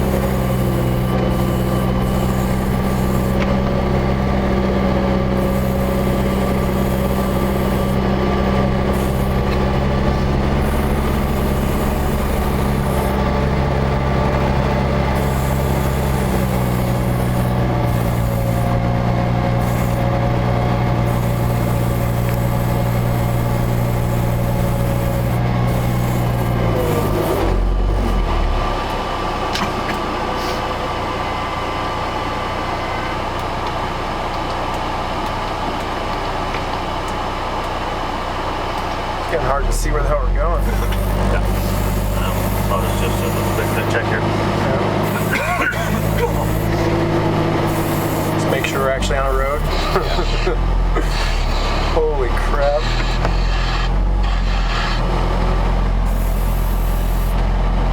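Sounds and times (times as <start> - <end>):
snow vehicle engine under load: 0.0 - 57.9.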